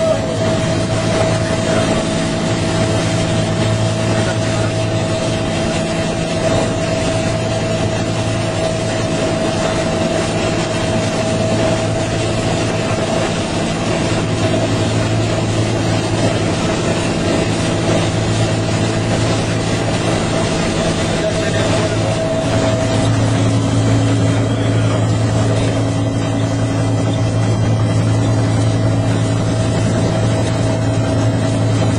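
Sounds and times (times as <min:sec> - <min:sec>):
helicopter turbine and rotor: 0:00.0 - 0:31.9.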